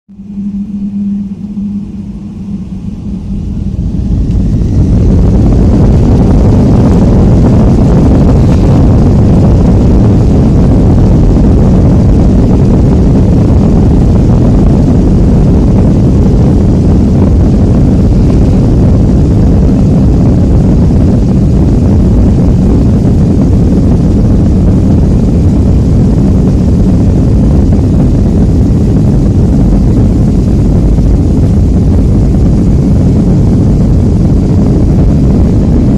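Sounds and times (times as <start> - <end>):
jet engines rumbling from cabin: 0.1 - 35.9.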